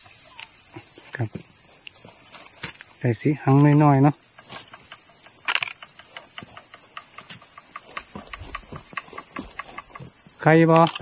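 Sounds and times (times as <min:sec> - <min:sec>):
high-pitched insect chorus: 0:00.0 - 0:11.0
pole rustling dry foliage: 0:00.0 - 0:11.0.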